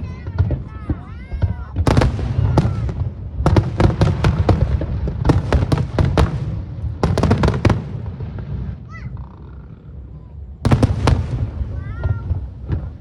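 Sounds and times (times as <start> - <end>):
continuous low rumble: 0.0 - 13.0
fireworks bursting in sharp cracks: 0.0 - 13.0.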